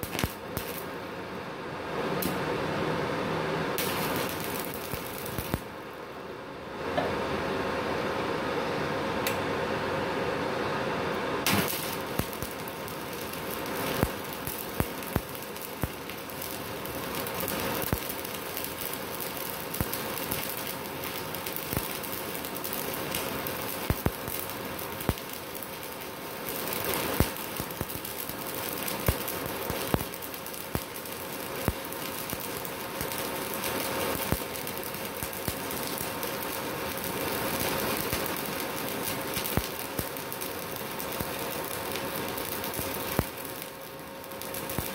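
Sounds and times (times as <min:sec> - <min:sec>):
sharp welding pops: 0:00.0 - 0:01.0, 0:02.2 - 0:02.4, 0:03.8 - 0:05.8, 0:11.4 - 0:44.9
welding arc crackling: 0:00.0 - 0:01.2, 0:02.0 - 0:02.5, 0:03.7 - 0:06.2, 0:11.3 - 0:44.9.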